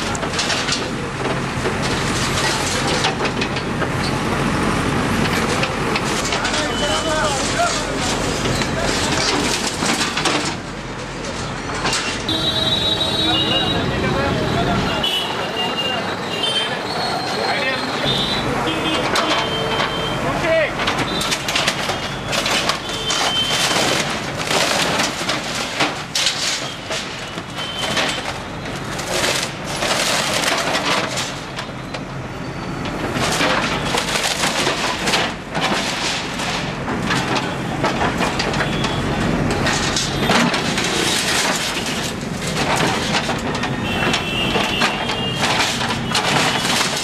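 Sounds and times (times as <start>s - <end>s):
backhoe engine running: 0.0s - 14.8s, 18.1s - 47.0s
masonry and metal crashing: 0.0s - 14.9s, 17.3s - 47.0s.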